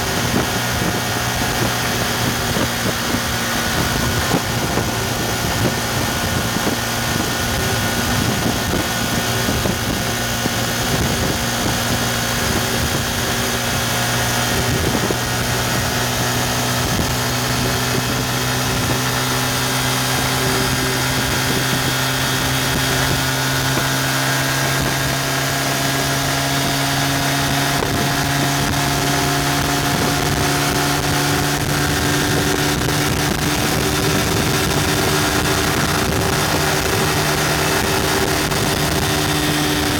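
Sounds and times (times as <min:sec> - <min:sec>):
motorcycle engine revving high: 0:00.0 - 0:39.9
wind noise: 0:00.0 - 0:39.9.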